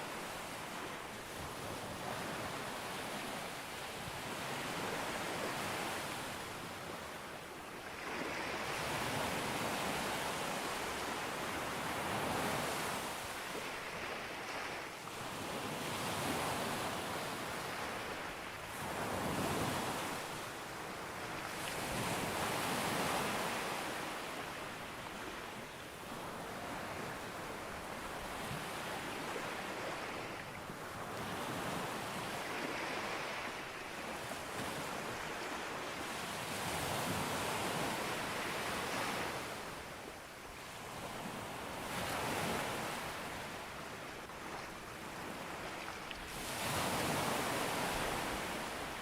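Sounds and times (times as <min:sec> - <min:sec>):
ocean waves breaking on beach: 0:00.0 - 0:49.0.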